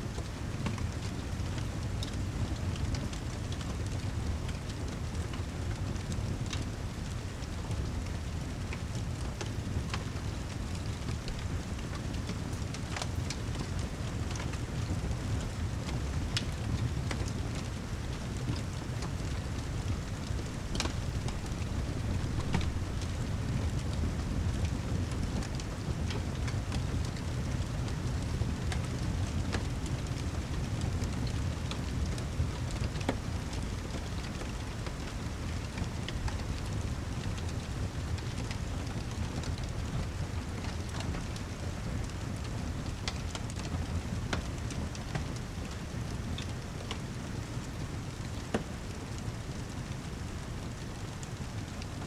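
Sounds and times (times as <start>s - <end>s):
fire crackles: 0.0s - 52.0s.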